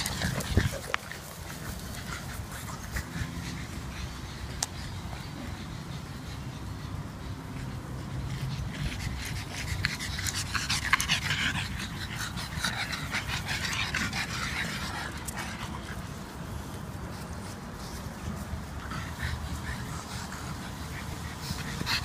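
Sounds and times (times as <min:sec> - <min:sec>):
dog panting rapidly: 0:00.0 - 0:22.0.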